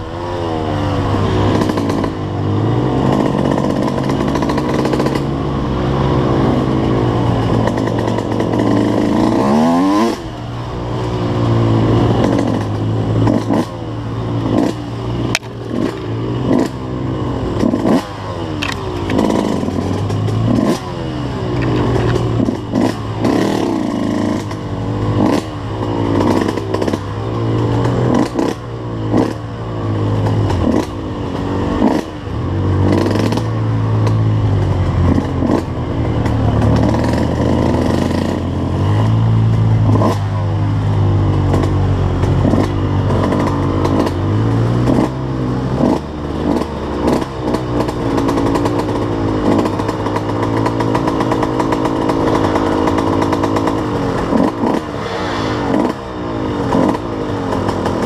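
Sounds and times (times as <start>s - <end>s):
bike rattles and knocks: 0.0s - 5.7s, 6.3s - 10.4s, 11.2s - 58.0s
dirt bike engine revving: 0.0s - 58.0s.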